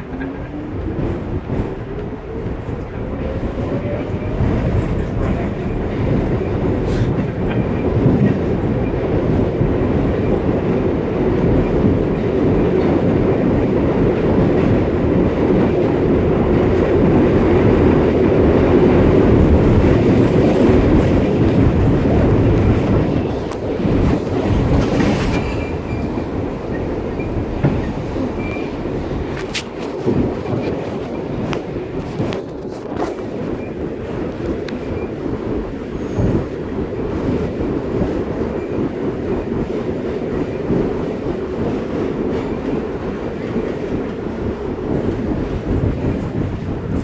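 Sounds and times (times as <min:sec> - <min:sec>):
train wheels rumbling on track: 0:00.0 - 0:47.0.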